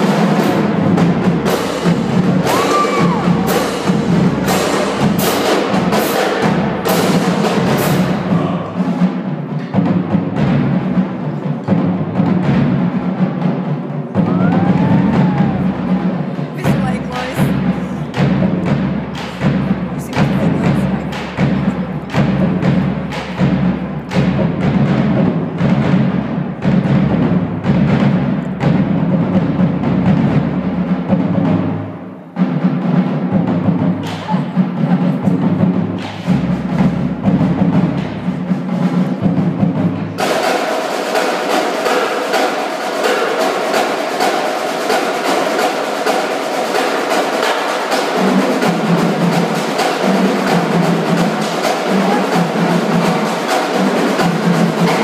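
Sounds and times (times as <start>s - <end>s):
drumline playing fast cadence: 0.0s - 55.0s.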